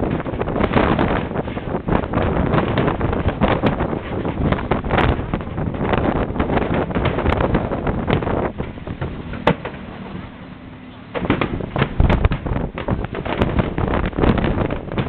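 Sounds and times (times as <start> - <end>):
fireworks bangs and crackles: 0.0 - 10.4, 11.0 - 15.0.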